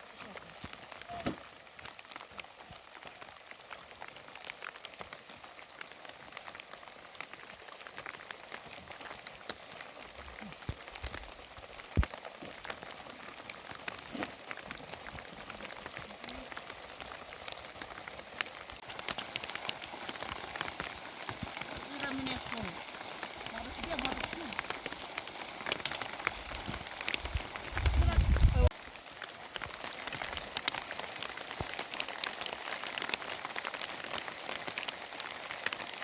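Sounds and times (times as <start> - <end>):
rain falling: 0.0 - 36.0
raindrops ticking: 0.0 - 36.0.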